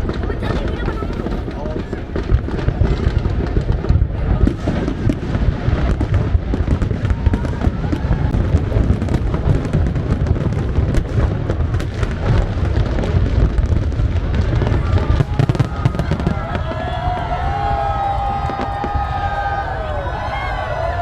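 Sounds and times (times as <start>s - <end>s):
fireworks booming: 0.0s - 21.0s
fireworks cracking: 0.0s - 21.0s.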